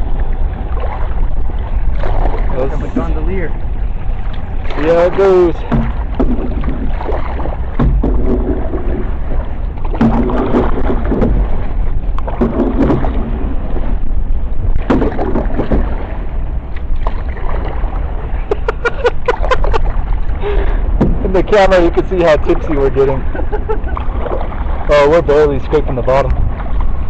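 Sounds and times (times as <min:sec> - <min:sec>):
paddle strokes in water: 0:00.0 - 0:27.0
wind rumble on microphone: 0:00.0 - 0:27.0
paddle knocks: 0:00.1 - 0:14.1, 0:14.7 - 0:24.9.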